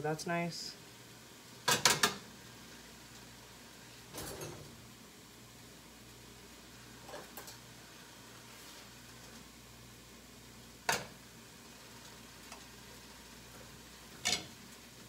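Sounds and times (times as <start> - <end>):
food sizzling in a pan: 0.2 - 15.0.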